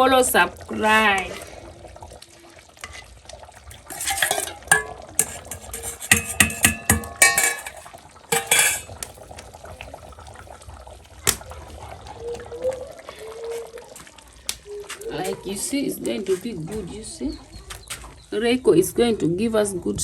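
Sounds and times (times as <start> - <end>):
spoon stirring in a pot: 0.1 - 10.4, 11.2 - 18.2.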